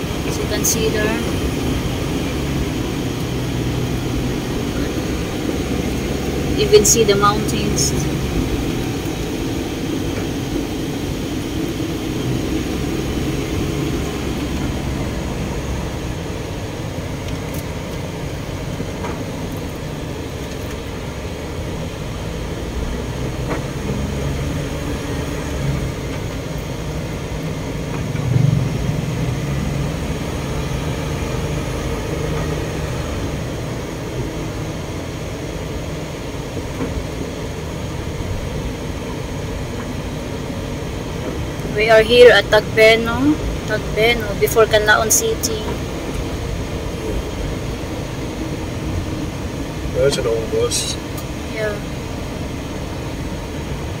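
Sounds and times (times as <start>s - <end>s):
car engine hum: 0.0s - 54.0s
road noise: 0.0s - 54.0s.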